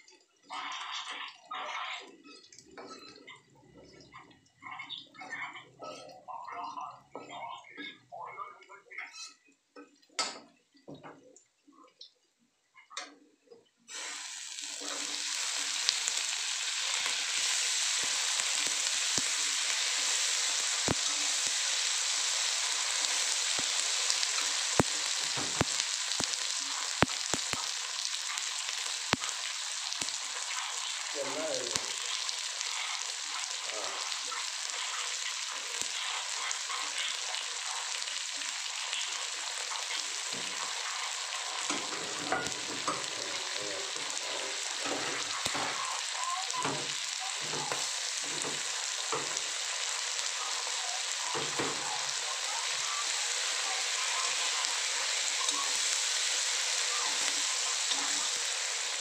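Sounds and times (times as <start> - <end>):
chillies sizzling in hot oil: 0.0 - 8.3, 9.0 - 9.5, 13.9 - 59.0.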